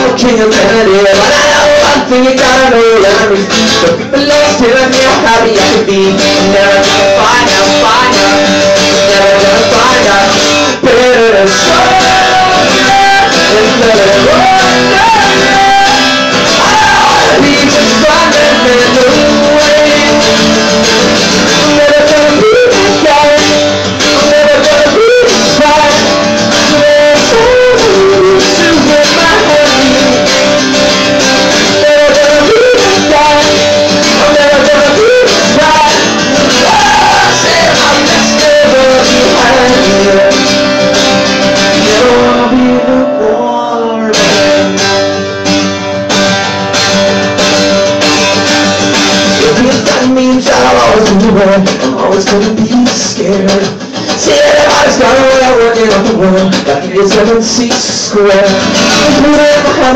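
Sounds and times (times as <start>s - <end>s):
man singing: 0.0s - 45.2s, 48.3s - 59.9s
acoustic guitar strumming: 0.0s - 59.9s.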